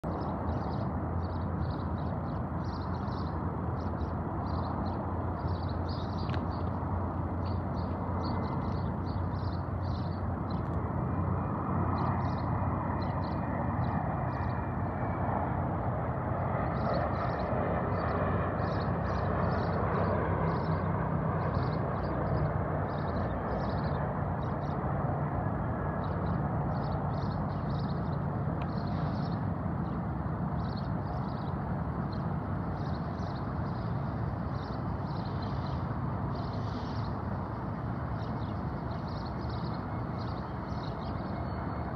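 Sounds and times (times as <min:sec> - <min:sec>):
yard and outdoor noise: 0:00.0 - 0:41.9.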